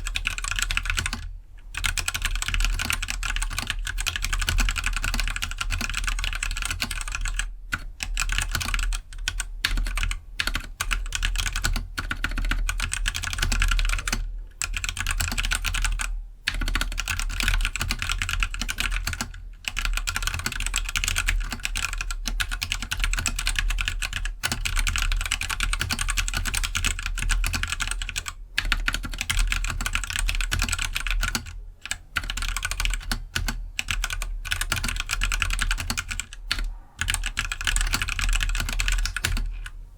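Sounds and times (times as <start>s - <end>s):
fast mechanical keyboard typing: 0.0s - 39.7s.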